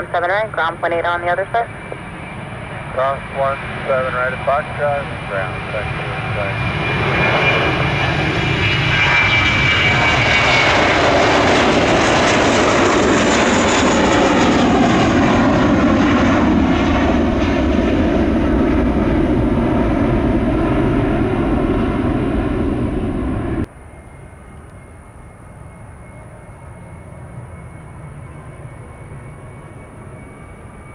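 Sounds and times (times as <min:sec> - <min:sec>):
high engine whine: 0:00.0 - 0:30.9
jet engines roaring: 0:00.0 - 0:30.9.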